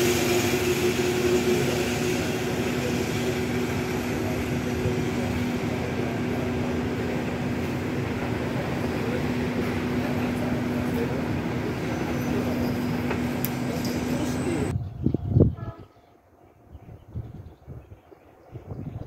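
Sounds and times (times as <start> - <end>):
electric train humming: 0.0 - 18.8.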